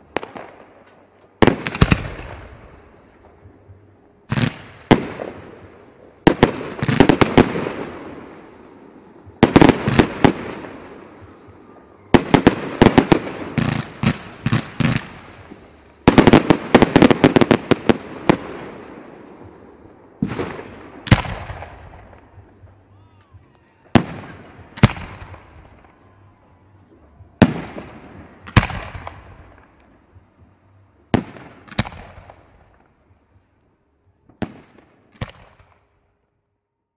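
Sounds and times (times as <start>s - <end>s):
fireworks exploding: 0.0s - 36.2s.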